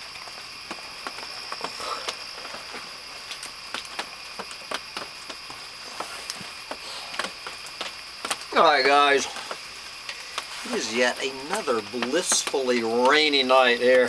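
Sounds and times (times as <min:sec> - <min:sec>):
night insects droning: 0:00.0 - 0:14.0
rain dripping and pattering: 0:00.0 - 0:14.0.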